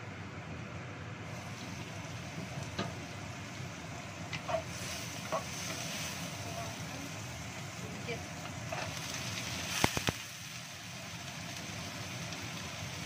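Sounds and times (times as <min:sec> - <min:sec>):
vegetables frying in a wok: 0:00.0 - 0:13.0.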